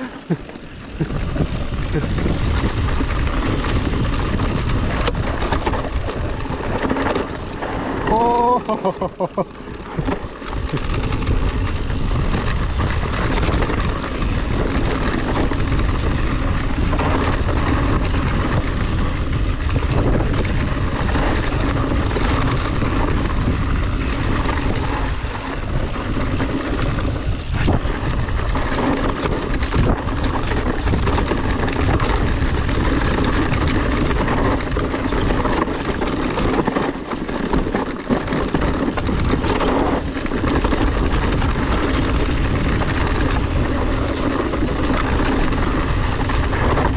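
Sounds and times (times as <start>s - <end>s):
mountain bike rattling on dirt trail: 0.0s - 46.9s
wind rushing over microphone: 0.0s - 46.9s.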